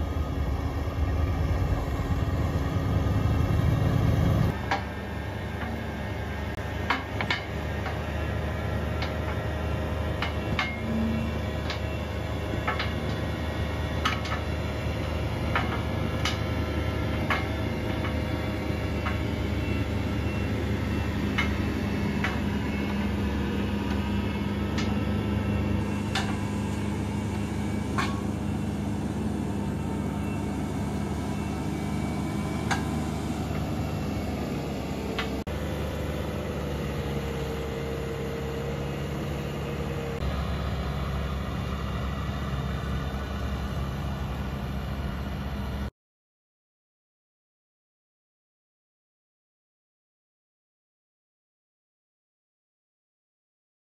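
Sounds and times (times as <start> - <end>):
loader engine running under load: 0.0 - 45.9.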